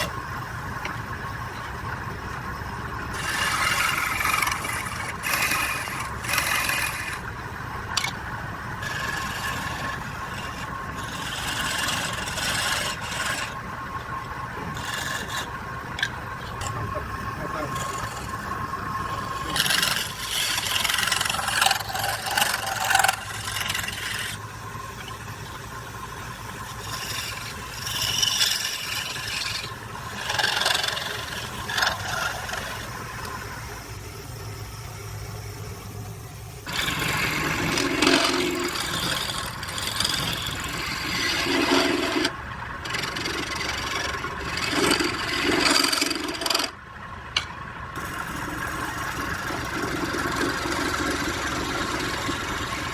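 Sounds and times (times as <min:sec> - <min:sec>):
wood scraping on lathe: 0:00.0 - 0:34.0, 0:36.6 - 0:52.9
lathe motor hum: 0:00.0 - 0:52.9.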